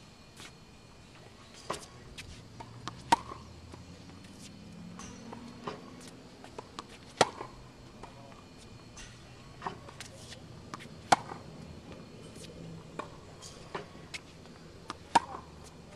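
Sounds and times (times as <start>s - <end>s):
tennis racket hitting ball: 1.6s - 14.2s, 14.8s - 15.7s.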